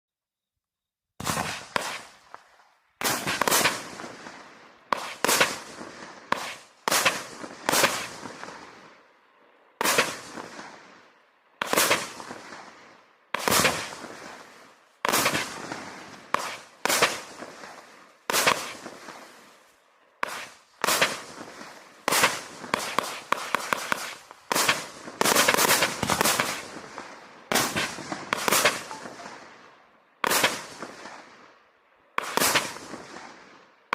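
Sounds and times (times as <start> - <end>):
firework bangs: 1.2 - 8.8, 9.8 - 10.9, 11.6 - 12.8, 13.4 - 19.6, 20.2 - 31.3, 32.2 - 33.4
firework crackling: 1.2 - 9.0, 9.8 - 11.0, 11.6 - 31.4, 32.2 - 33.6.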